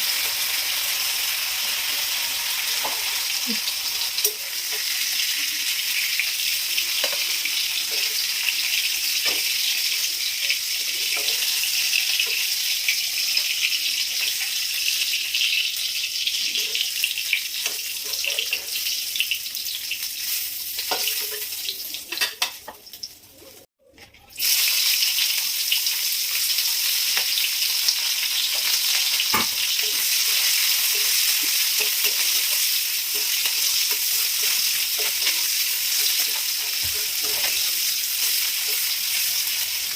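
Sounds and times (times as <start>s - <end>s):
prawns sizzling in hot oil: 0.0s - 39.9s.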